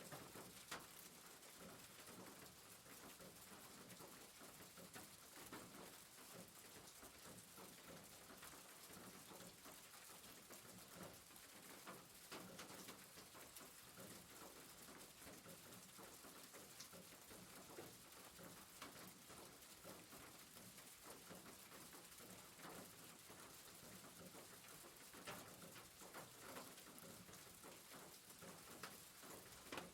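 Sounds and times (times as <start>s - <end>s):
rain pattering on a roof: 0.0s - 29.9s.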